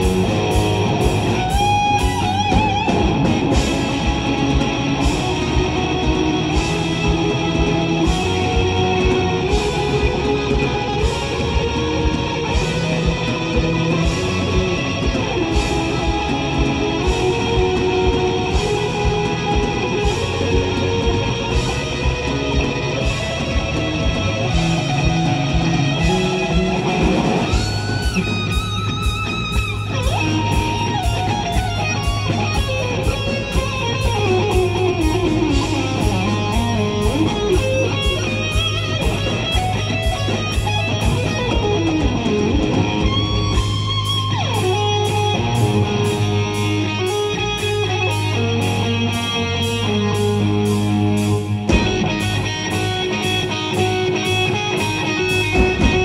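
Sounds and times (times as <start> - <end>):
bass: 0.0 - 56.0
lead electric guitar melody: 0.0 - 56.0
steady drum beat: 0.0 - 56.0.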